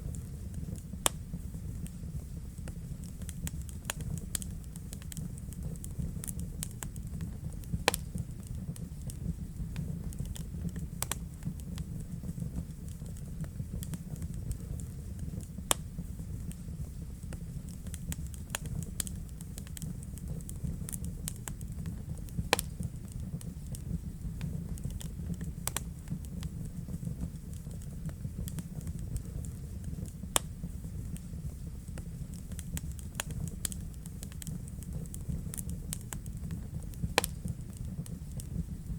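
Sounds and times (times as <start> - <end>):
fire crackling: 0.0 - 38.9
fire flames rumbling: 0.0 - 38.9
sharp pops from fire: 0.0 - 38.9.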